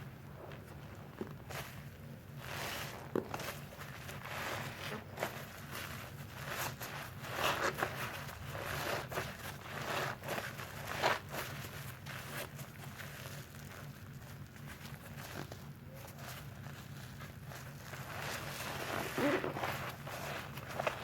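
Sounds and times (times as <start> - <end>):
foam crackling: 0.0 - 21.0
soapy sponge squishing: 0.0 - 21.0.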